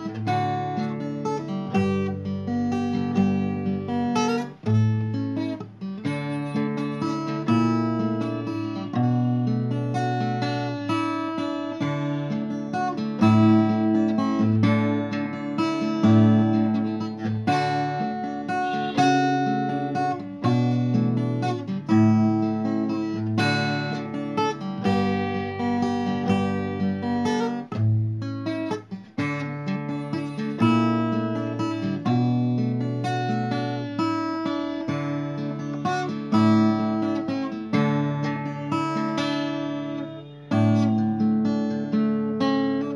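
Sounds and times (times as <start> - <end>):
acoustic guitar strumming: 0.0 - 42.9.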